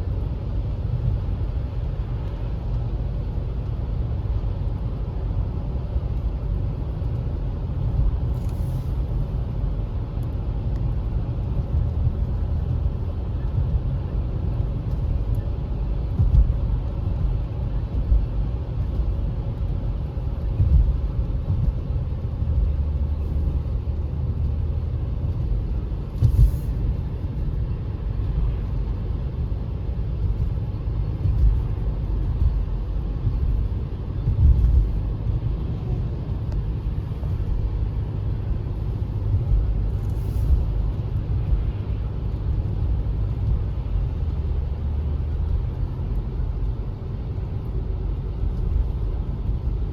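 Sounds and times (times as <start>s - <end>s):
car engine rumble: 0.0s - 49.9s
road noise: 0.0s - 49.9s.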